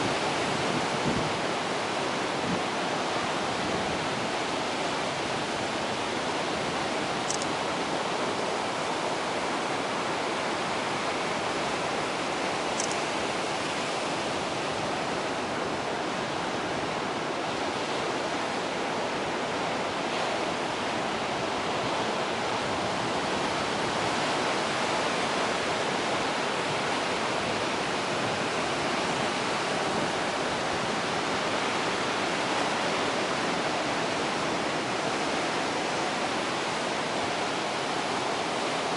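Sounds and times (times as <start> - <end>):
waves breaking on rocky shore: 0.0 - 38.9.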